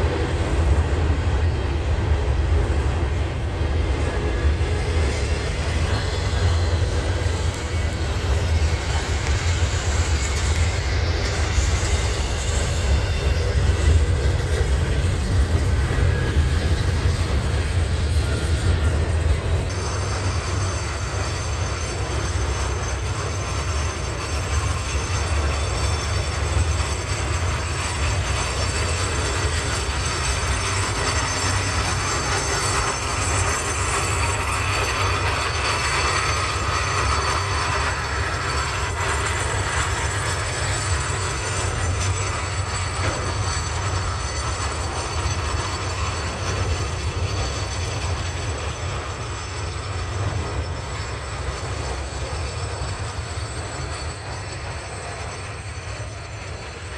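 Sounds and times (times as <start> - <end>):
freight train rumbling past: 0.0 - 56.9
wheel squeal: 3.1 - 56.9.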